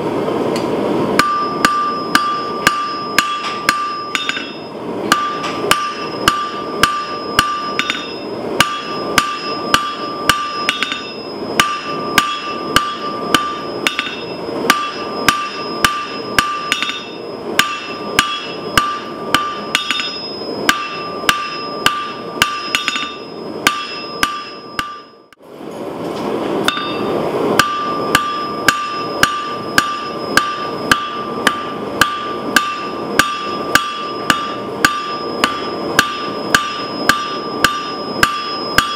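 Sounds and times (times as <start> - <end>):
anvil ringing: 1.2 - 25.3, 26.7 - 38.9
hammer striking metal on anvil: 1.2 - 25.4, 26.6 - 38.9.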